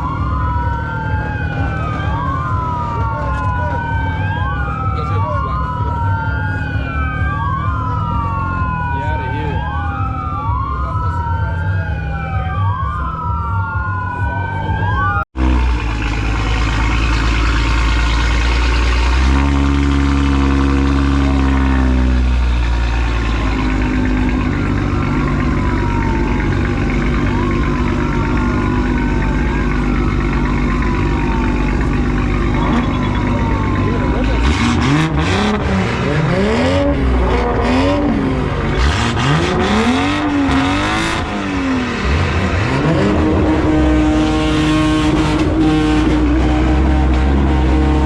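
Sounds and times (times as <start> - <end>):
car engines: 0.0 - 48.0
loud engine rumbling: 0.0 - 48.0
police siren wailing: 0.0 - 48.0.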